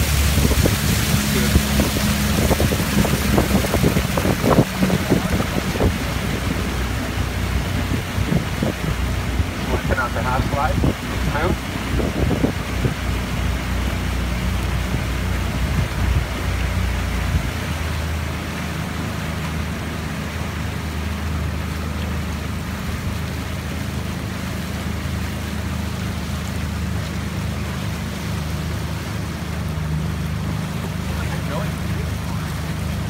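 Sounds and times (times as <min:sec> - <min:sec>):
outboard motor running: 0:00.0 - 0:33.0
water rushing along hull: 0:00.0 - 0:33.0.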